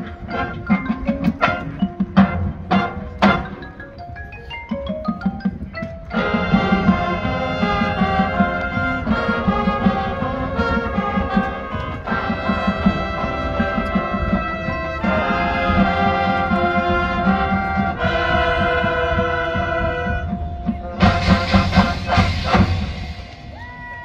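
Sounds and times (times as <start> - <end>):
brass chords: 0.0 - 4.0, 5.9 - 23.8
drums pulsing: 0.0 - 24.0.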